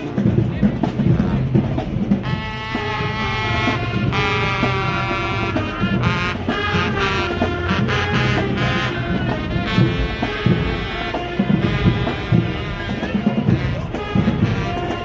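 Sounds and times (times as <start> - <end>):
marching drums: 0.0 - 15.0
brass section playing: 2.2 - 15.0.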